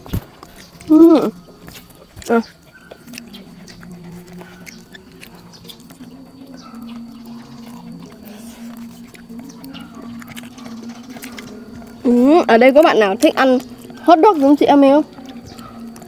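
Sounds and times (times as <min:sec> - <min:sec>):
chewing and mouth clicks: 0:00.0 - 0:16.0
steady low hum: 0:00.0 - 0:16.0.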